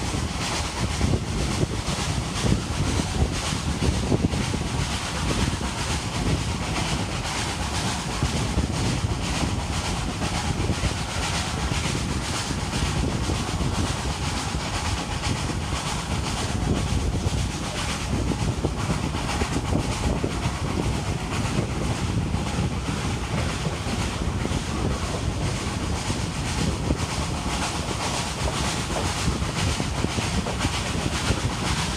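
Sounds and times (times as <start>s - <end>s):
steam locomotive chuffing: 0.0s - 31.9s
train rumbling on rails: 0.0s - 31.9s.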